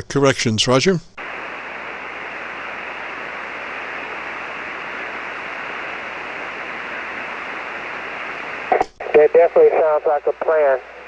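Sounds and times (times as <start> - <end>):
radio static hiss: 1.2 - 11.0.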